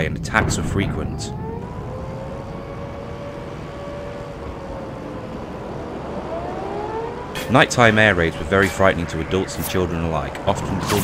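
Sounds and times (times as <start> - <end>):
low steady rumble: 0.0 - 10.7
air raid siren wailing: 1.0 - 11.0.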